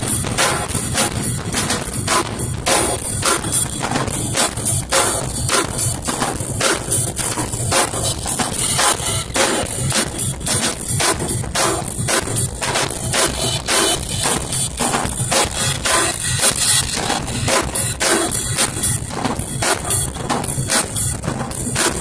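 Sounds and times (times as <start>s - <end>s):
drum kit fast groove: 0.0s - 22.0s.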